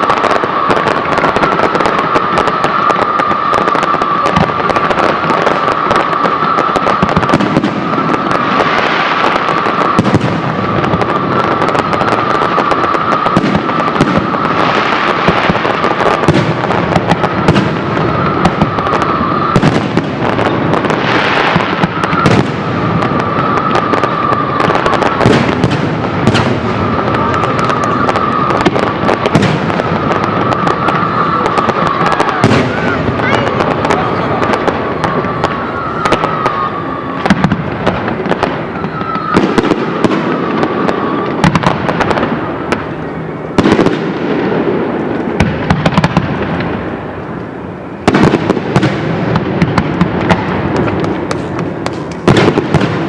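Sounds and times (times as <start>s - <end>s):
fireworks crackling and bursting: 0.0s - 53.0s.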